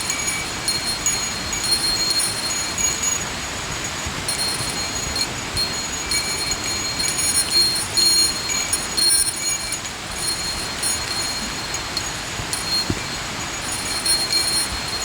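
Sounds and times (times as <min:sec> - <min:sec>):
small metal bell jingling: 0:00.0 - 0:15.0.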